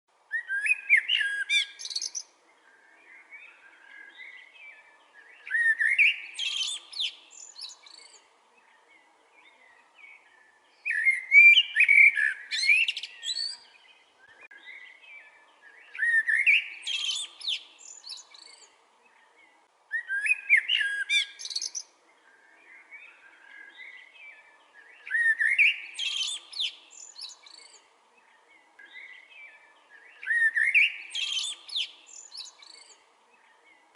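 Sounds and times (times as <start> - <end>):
blackbird singing: 0.3 - 33.9
soft bird twittering: 0.3 - 33.9.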